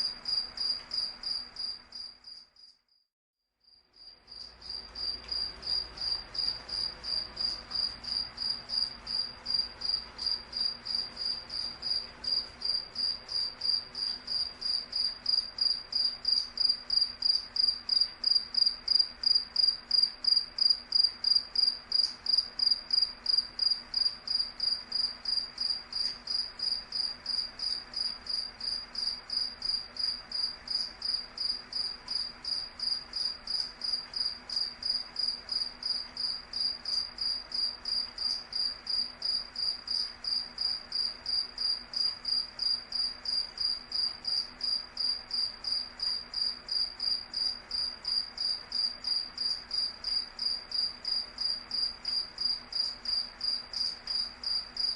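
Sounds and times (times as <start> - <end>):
cricket chirping: 0.0 - 3.0, 3.6 - 54.9.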